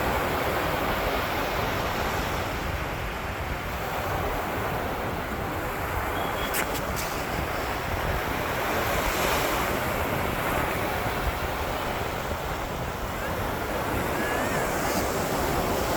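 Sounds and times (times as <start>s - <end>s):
ocean waves breaking on beach: 0.0s - 15.9s
wind buffeting microphone: 0.0s - 15.9s.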